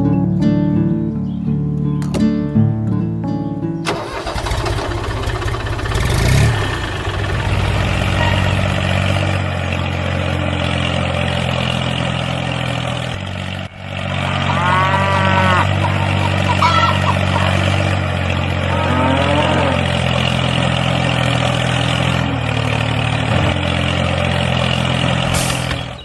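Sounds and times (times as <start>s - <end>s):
engine starting and running: 3.8s - 26.0s.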